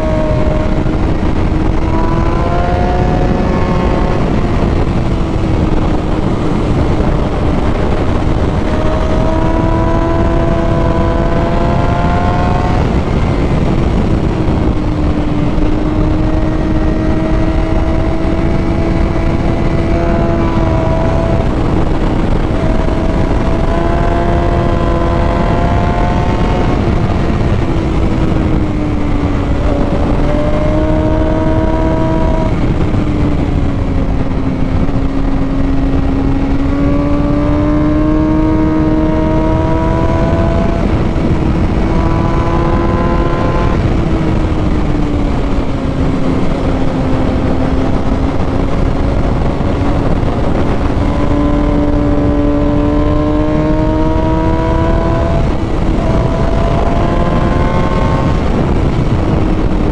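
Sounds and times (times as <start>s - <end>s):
motorcycle engine at high revs: 0.0s - 59.9s
wind rush on microphone: 0.0s - 59.9s.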